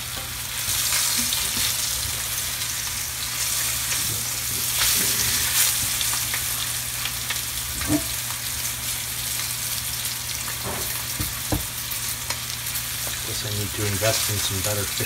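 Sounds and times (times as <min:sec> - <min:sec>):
fish fillets sizzling in oil: 0:00.0 - 0:15.0.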